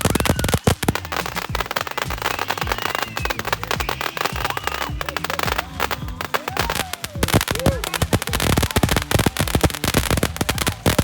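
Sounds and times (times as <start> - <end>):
fireworks crackling and popping: 0.0 - 11.0
music playing: 0.0 - 11.0.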